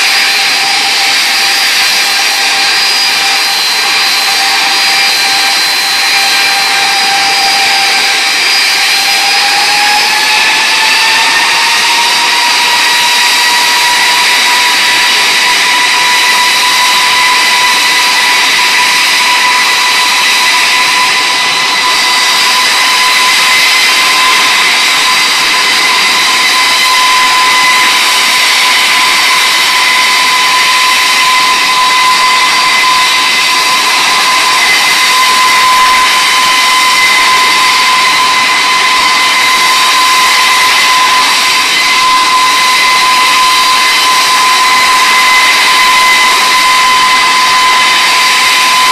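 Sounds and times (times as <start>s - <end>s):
jet engine roar and whine: 0.0s - 48.9s.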